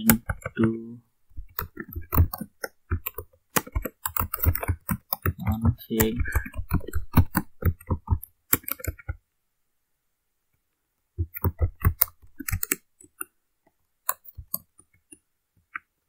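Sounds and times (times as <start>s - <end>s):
computer keyboard typing: 0.0s - 9.2s, 11.2s - 13.4s, 14.0s - 15.9s.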